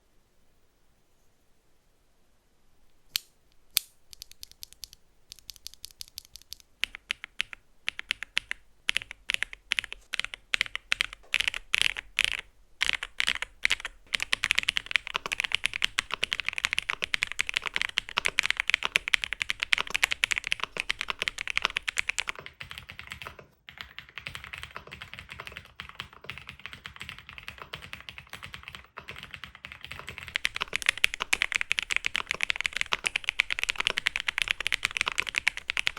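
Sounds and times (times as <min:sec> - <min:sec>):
keyboard typing: 0:03.1 - 0:35.9.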